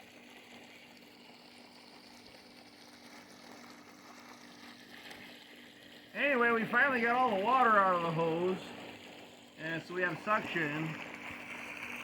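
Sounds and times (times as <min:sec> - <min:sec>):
moving water wash: 0:00.0 - 0:12.0
pool filter pump hum: 0:00.0 - 0:12.0.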